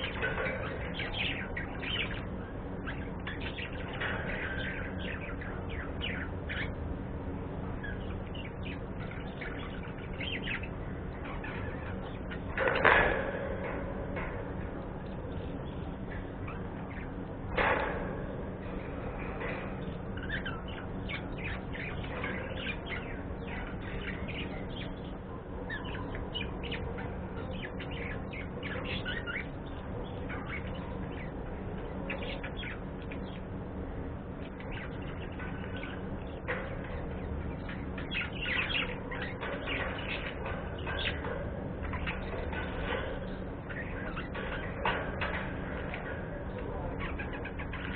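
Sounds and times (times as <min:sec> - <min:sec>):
budgerigars chirping and chattering: 0:00.0 - 0:06.8, 0:07.8 - 0:14.3, 0:18.6 - 0:47.9
steady low hum: 0:00.0 - 0:47.9.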